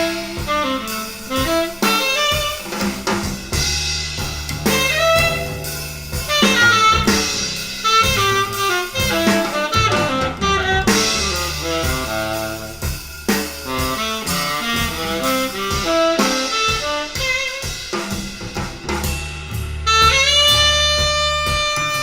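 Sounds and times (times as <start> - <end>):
jazz with saxophone and drums: 0.0 - 22.0.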